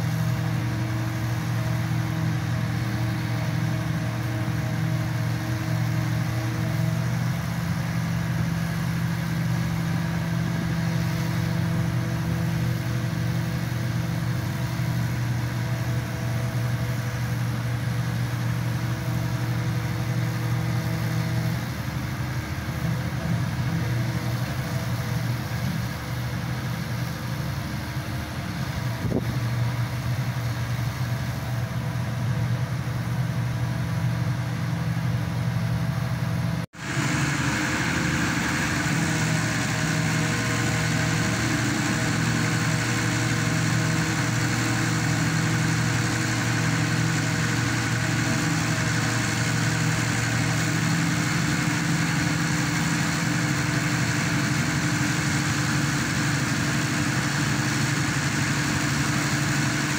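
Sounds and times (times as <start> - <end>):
pile driver engine humming: 0.0 - 59.9.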